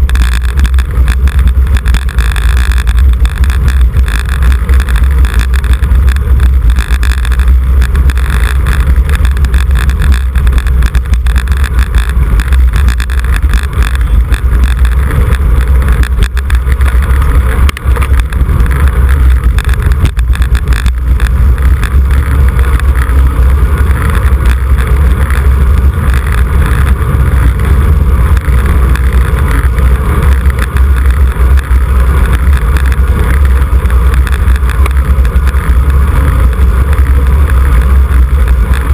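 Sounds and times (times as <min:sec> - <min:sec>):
heavy low rumble: 0:00.0 - 0:38.9
wind roar on microphone: 0:00.0 - 0:38.9.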